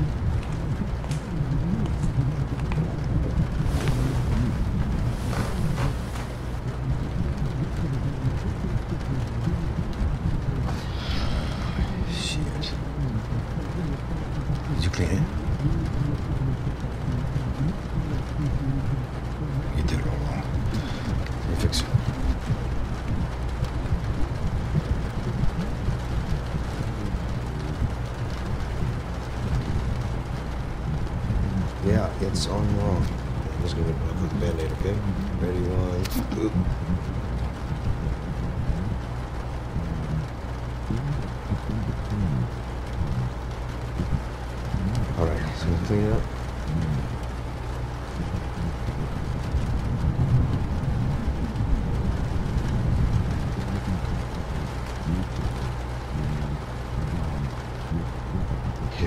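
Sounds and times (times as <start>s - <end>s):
heavy rain hiss: 0.0s - 59.0s
wind rumble: 0.0s - 59.0s.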